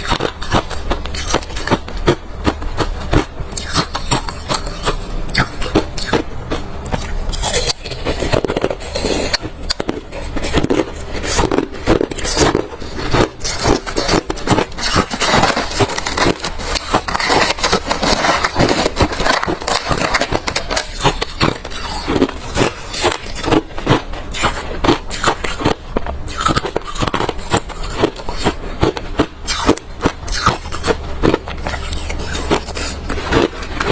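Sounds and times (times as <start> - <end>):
chewing crunchy ice: 0.0 - 33.9.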